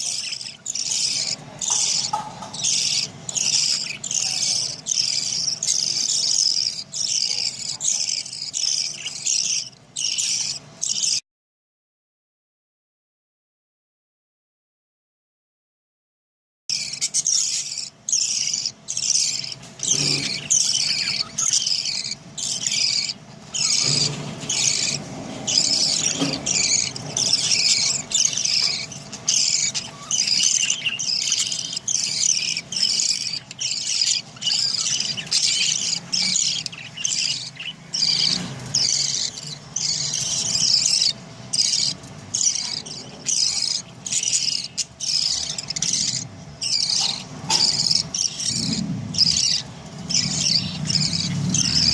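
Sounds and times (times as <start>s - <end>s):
budgerigars chirping: 0.0s - 11.2s, 16.7s - 51.9s.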